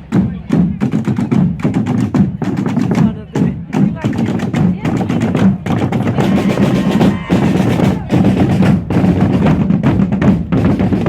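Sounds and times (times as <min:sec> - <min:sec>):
marching drums beating: 0:00.0 - 0:11.0.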